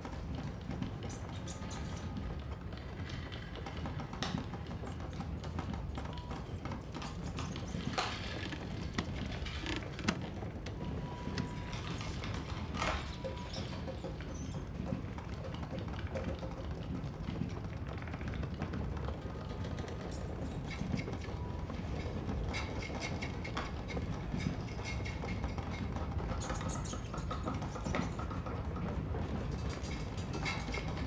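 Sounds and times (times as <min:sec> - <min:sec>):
clicks and patter: 0:00.0 - 0:31.0.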